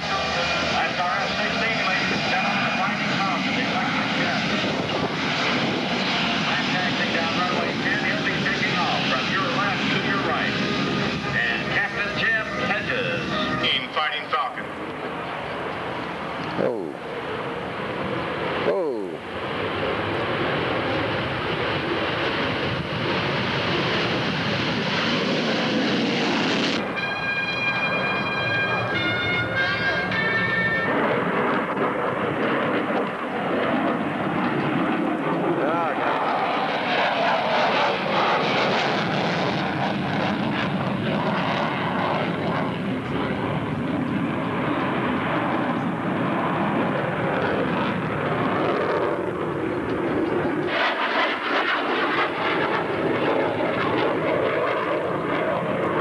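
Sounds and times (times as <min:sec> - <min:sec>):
aircraft engine drone: 0:00.0 - 0:56.0
airplane flying by: 0:00.0 - 0:56.0.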